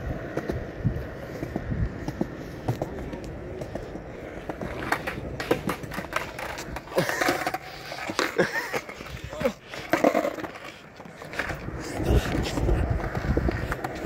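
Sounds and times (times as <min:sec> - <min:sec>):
skateboard clacks: 0:00.0 - 0:14.0
skateboard wheels rolling on concrete: 0:00.0 - 0:14.0.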